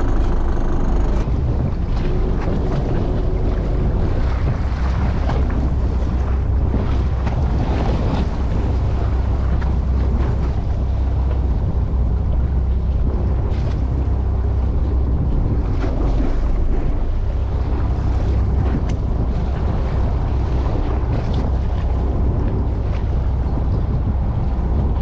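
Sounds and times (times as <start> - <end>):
low engine rumble: 0.0 - 25.0
water washing: 0.0 - 25.0
wind buffeting microphone: 0.0 - 25.0.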